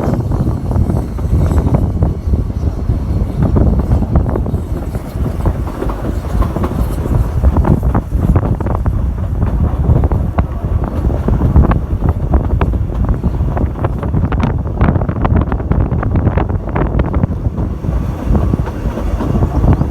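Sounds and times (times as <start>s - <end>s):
train running: 0.0s - 19.9s
wheels clicking on track: 0.0s - 19.9s
wind buffeting microphone: 0.0s - 19.9s.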